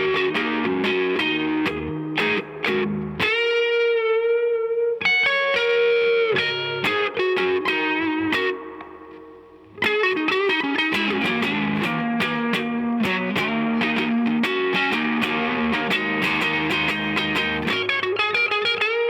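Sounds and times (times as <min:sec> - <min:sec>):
electric guitar notes: 0:00.0 - 0:19.0.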